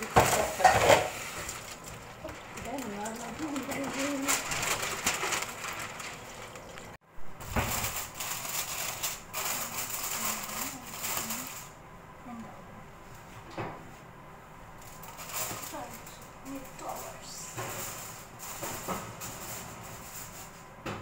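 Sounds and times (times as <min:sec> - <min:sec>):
aluminium foil crinkling: 0:00.0 - 0:11.8, 0:14.8 - 0:20.6
baking paper rustling: 0:00.0 - 0:11.8, 0:14.8 - 0:20.8.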